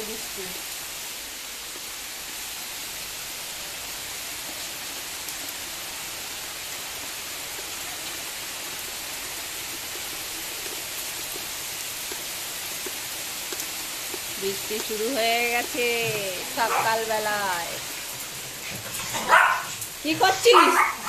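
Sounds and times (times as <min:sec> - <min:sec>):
rain falling on pond and leaves: 0:00.0 - 0:21.0.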